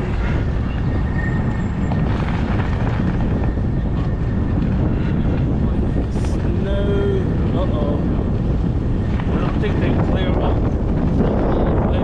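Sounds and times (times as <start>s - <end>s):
bike tyre noise on snow: 0.0s - 12.0s
wind rumble on microphone: 0.0s - 12.0s.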